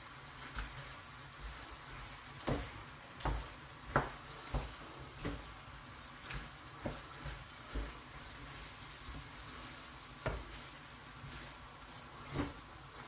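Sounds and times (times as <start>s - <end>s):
food sizzling: 0.0s - 13.0s
utensil scraping a wok: 0.0s - 13.0s.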